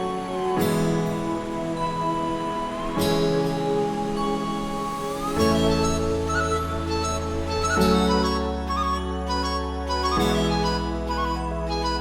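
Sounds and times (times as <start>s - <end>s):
instrumental background music chords: 0.0s - 12.0s.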